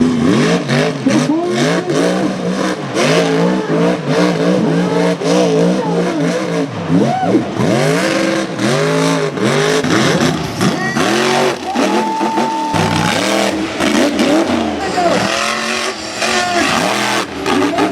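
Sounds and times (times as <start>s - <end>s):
truck engine revving hard: 0.0s - 17.9s.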